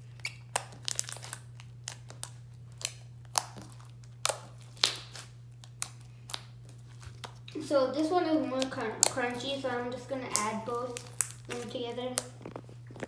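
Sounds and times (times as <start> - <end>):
slime squeezed with sticky pops: 0.0 - 7.4, 8.6 - 9.4, 10.3 - 13.0.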